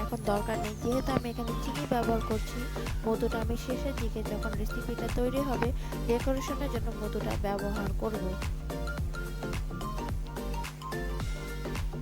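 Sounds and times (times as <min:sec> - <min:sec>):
background music with steady beat: 0:00.0 - 0:12.0
constant bass: 0:00.0 - 0:12.0.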